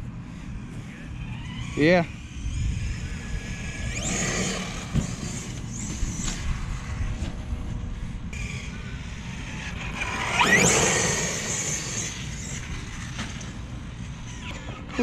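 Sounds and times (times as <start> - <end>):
rc truck motor whining: 0.3 - 7.3, 7.9 - 15.0.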